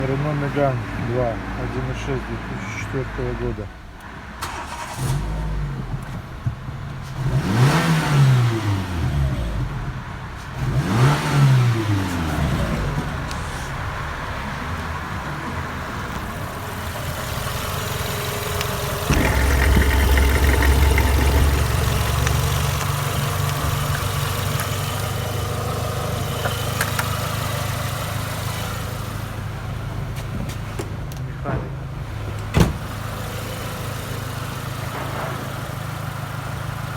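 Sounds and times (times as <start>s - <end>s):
car engine idling: 0.0s - 7.7s, 8.6s - 36.9s.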